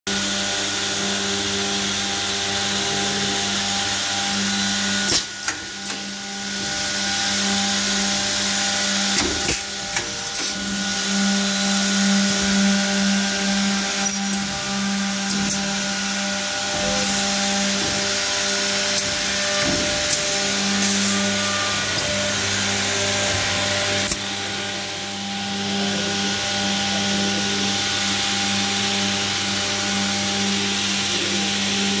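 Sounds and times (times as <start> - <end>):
motor hum: 1.0 - 32.0.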